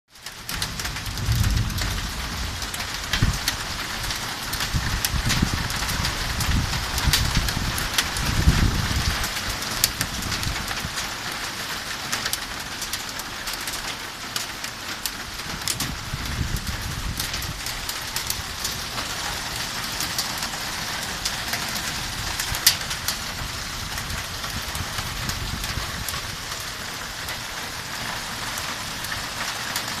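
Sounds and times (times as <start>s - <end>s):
heavy rain falling: 0.1s - 30.0s
raindrops ticking on surface: 0.1s - 30.0s.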